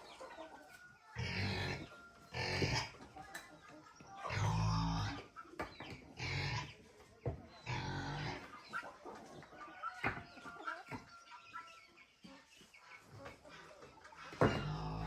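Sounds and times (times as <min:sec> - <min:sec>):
chickens clucking: 0:00.0 - 0:15.0
farm animals calling: 0:00.0 - 0:15.0.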